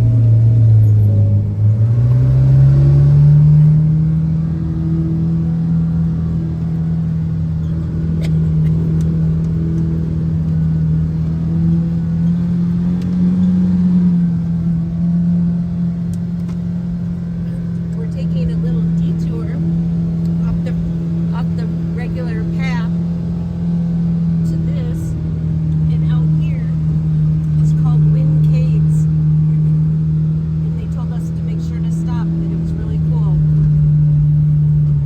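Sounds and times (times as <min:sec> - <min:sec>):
off-road vehicle engine driving: 0:00.0 - 0:35.0.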